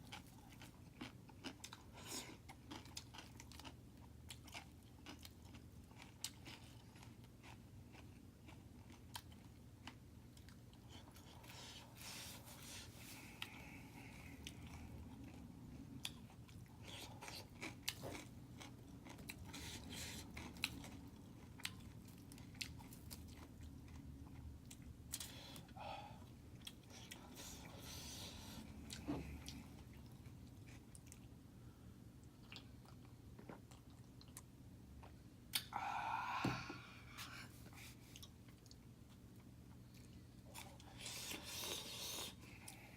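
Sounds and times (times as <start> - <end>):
person chewing food: 0.0 - 35.7, 37.2 - 42.9.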